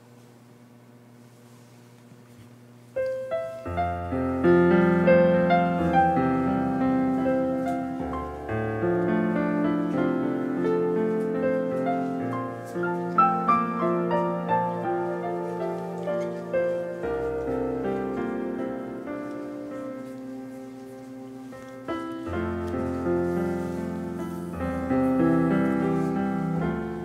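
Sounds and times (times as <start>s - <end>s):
piano music: 3.0s - 27.0s.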